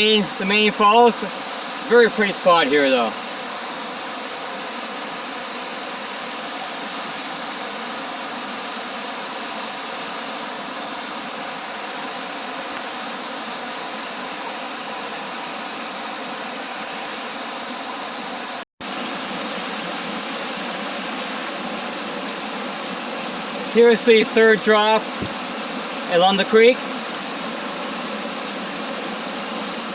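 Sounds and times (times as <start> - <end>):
small waterfall rushing: 0.0 - 29.9.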